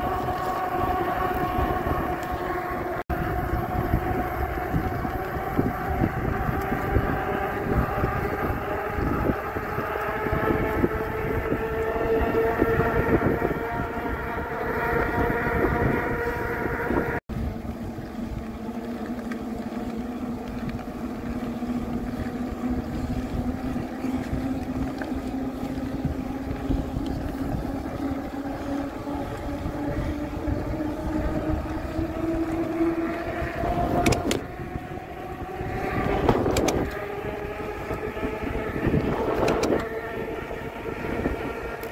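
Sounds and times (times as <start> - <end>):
electric motor whining: 0.0 - 41.9
wind buffeting microphone: 0.0 - 41.9.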